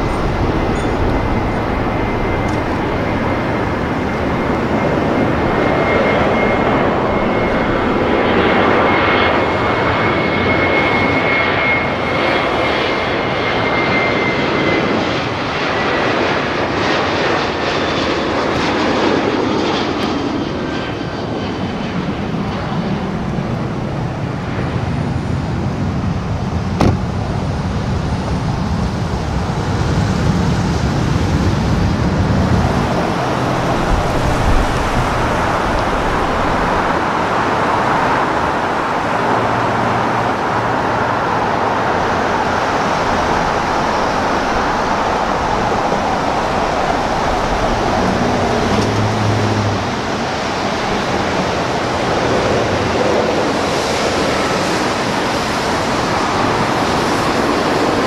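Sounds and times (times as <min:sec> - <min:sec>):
jet engines roaring on takeoff: 0:00.0 - 0:58.0
low aircraft rumble: 0:00.0 - 0:58.0.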